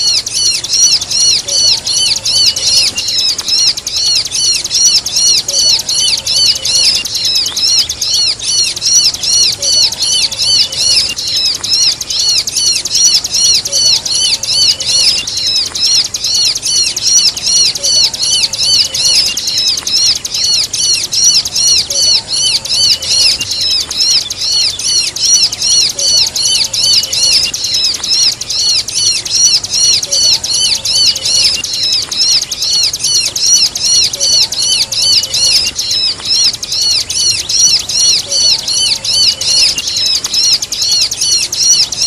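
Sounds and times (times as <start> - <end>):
bird distress cries: 0.0 - 42.0
bird song: 0.0 - 42.0.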